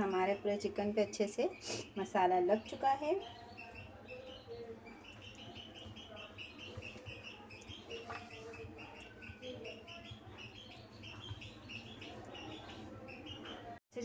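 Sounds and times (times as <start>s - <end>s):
birds chirping: 0.0s - 13.8s.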